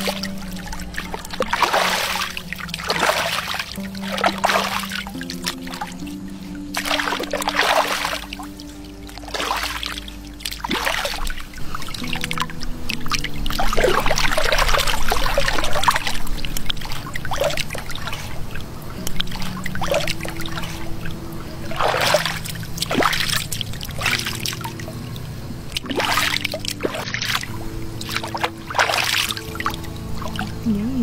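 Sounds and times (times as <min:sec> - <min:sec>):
low steady tones: 0:00.0 - 0:31.0
water splashing and trickling: 0:00.0 - 0:31.0.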